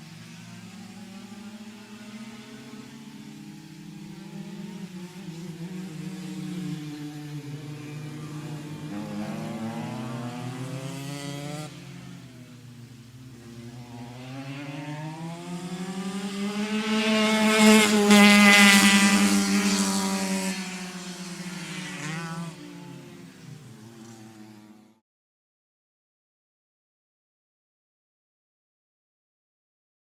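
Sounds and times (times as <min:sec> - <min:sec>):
racing kart engine: 0:00.0 - 0:25.0.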